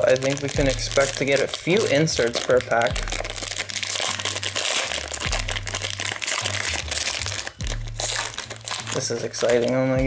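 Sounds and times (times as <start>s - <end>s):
background music with bass: 0.0s - 10.0s
plastic wrapper crinkling: 0.0s - 10.0s.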